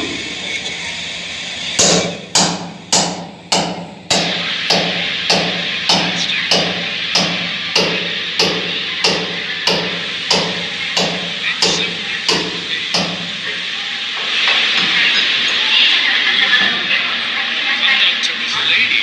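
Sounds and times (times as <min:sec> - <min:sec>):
train brakes hissing: 0:00.0 - 0:19.0
train wheels clicking: 0:01.6 - 0:17.1.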